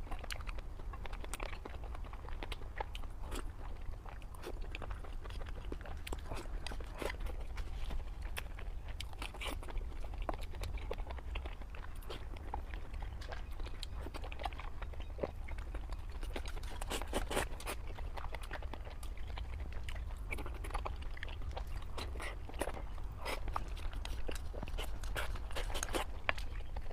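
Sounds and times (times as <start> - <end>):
person chewing crunchy food: 0.0 - 26.9.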